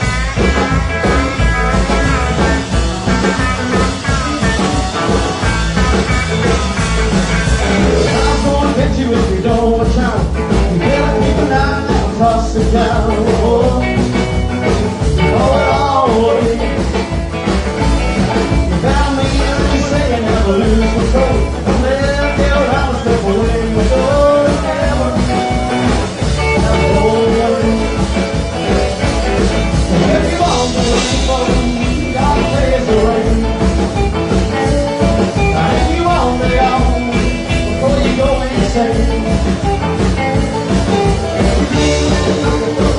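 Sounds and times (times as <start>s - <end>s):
rock and roll band playing live: 0.0s - 42.9s.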